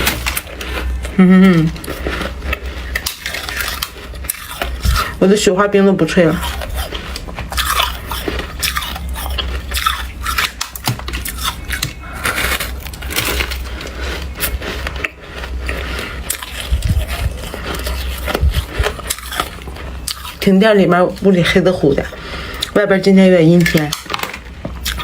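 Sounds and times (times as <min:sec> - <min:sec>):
chewing crunchy shaved ice: 0:00.0 - 0:25.0
steady low hum: 0:00.0 - 0:25.0.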